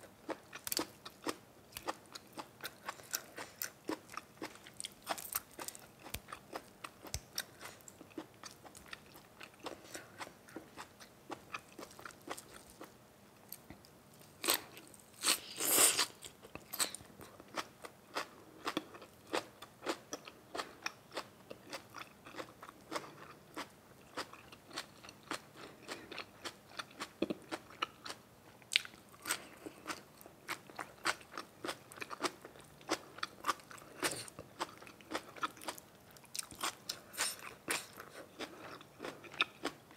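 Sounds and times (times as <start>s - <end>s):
person chewing crunchy food: 0.2s - 12.9s, 13.6s - 39.9s.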